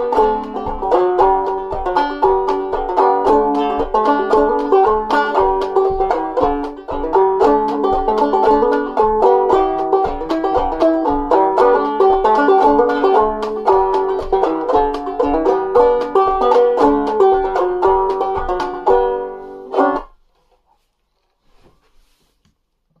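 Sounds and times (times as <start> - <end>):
banjo playing country tune: 0.0 - 20.3.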